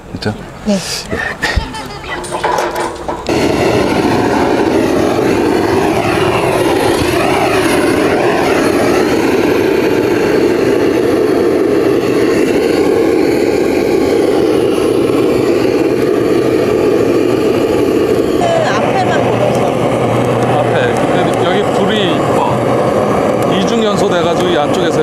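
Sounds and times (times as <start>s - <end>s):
torch flame rushing: 2.5s - 25.0s.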